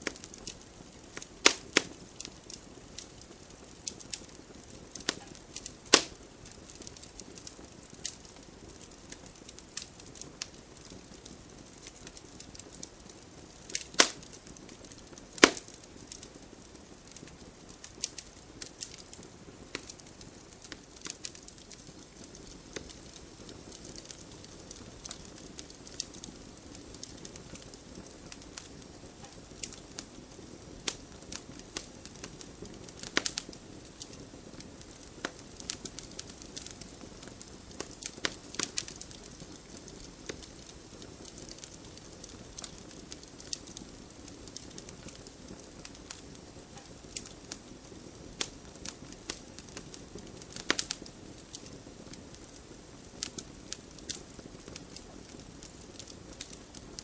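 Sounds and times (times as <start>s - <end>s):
low hiss of burning wood: 0.0s - 57.0s
wood fire popping and snapping: 0.0s - 57.0s.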